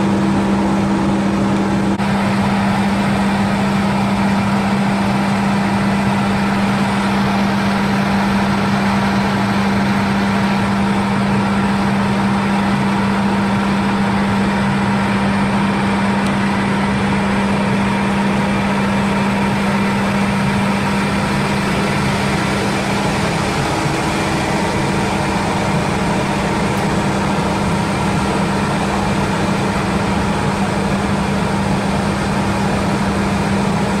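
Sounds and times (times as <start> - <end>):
industrial machinery hum: 0.0 - 34.0.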